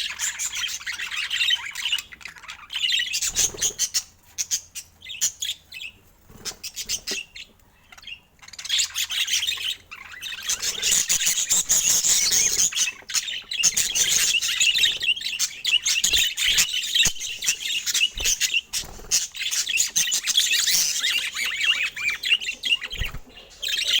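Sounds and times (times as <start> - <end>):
budgerigars chattering and squawking: 0.0 - 24.0.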